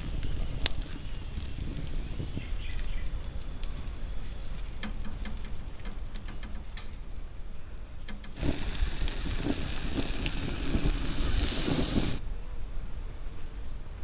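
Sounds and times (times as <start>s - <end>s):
small clicks and crackles: 0.0s - 7.1s, 7.9s - 12.2s
insects droning high tone: 0.0s - 14.0s
lower insect tone: 0.0s - 14.0s.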